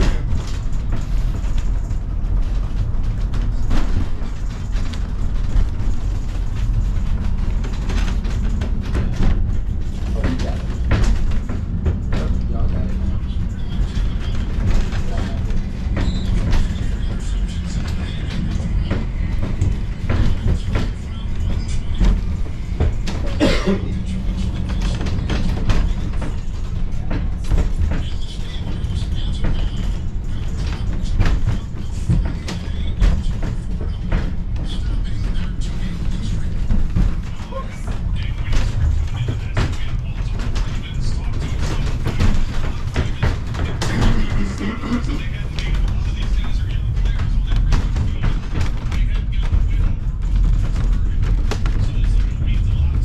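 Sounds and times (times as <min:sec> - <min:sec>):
funicular car rumbling on rails: 0:00.0 - 0:53.0.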